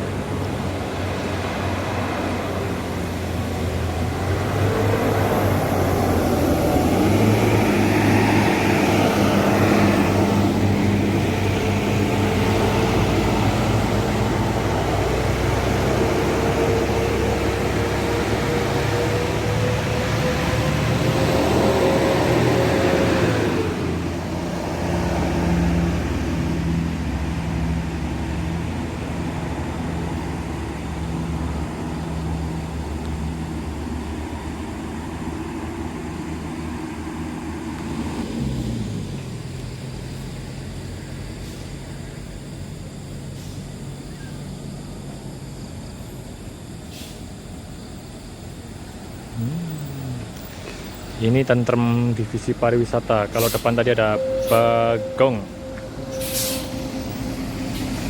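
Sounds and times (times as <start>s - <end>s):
buses driving past: 0.0s - 58.0s
loud engine whine: 0.0s - 58.0s.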